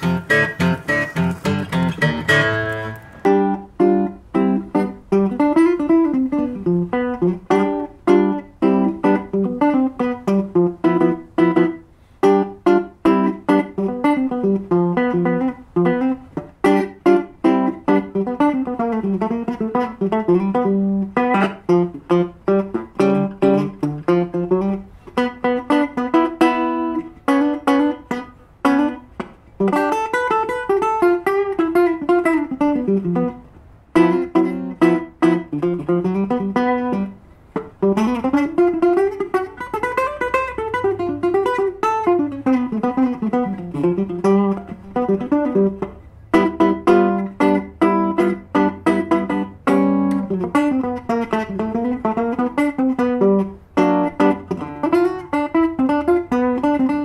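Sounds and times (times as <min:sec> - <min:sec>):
fingerpicked guitar music: 0:00.0 - 0:57.0.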